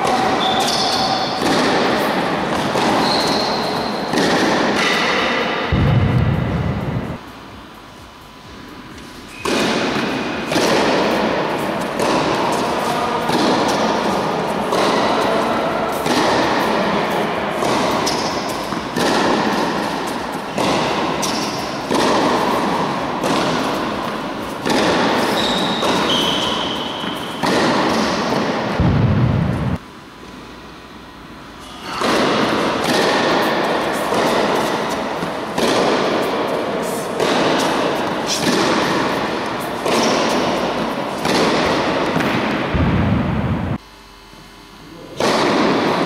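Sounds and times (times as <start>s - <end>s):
tennis ball striking racquets: 0.0s - 7.2s, 9.0s - 29.8s, 31.8s - 43.8s, 45.2s - 46.0s.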